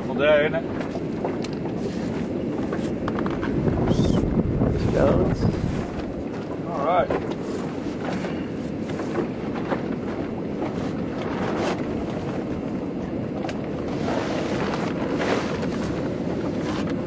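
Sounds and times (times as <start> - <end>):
boat motor running: 0.0 - 17.0
sea noise: 0.0 - 17.0
wind buffeting microphone: 0.0 - 17.0.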